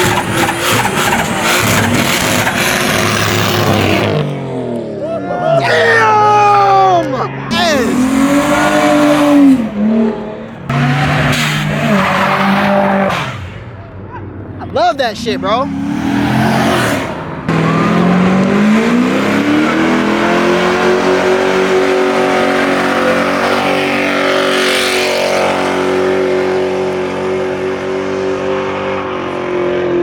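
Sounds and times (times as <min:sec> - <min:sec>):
car engine revving: 0:00.0 - 0:05.1, 0:07.3 - 0:30.0.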